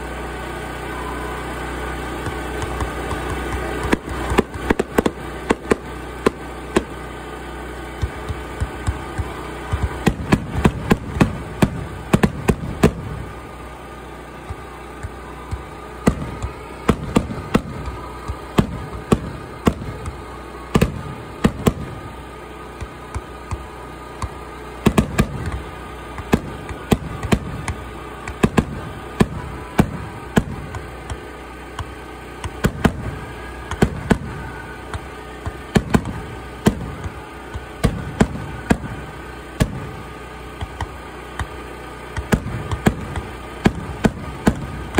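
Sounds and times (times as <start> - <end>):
fireworks bangs: 0.9 - 44.9.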